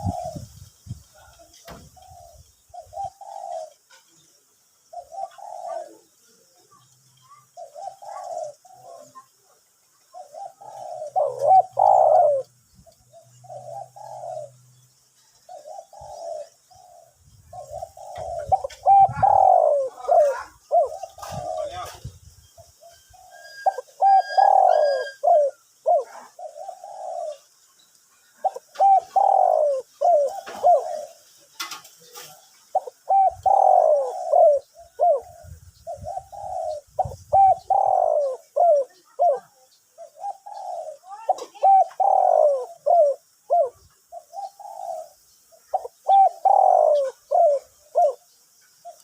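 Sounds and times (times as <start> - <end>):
dove cooing: 0.0 - 27.6, 28.4 - 49.0.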